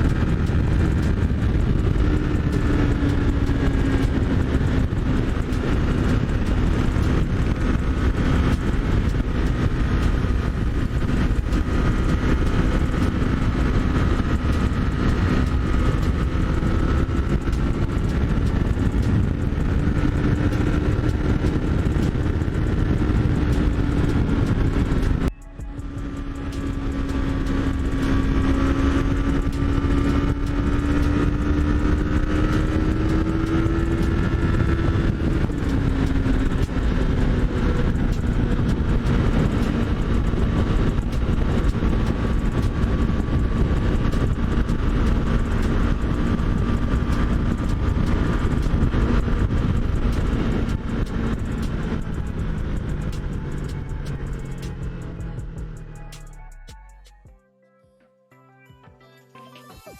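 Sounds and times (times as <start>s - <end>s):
wind rushing: 0.0s - 56.0s
motorcycle engine running: 0.0s - 57.2s.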